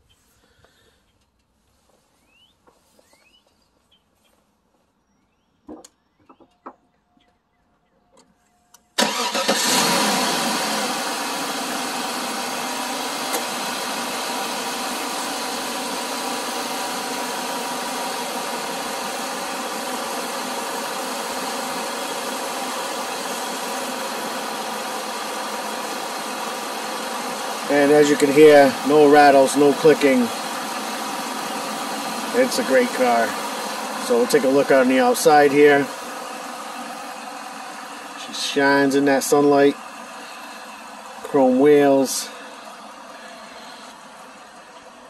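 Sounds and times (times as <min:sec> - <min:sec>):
car engine starting and idling: 0:08.1 - 0:45.0.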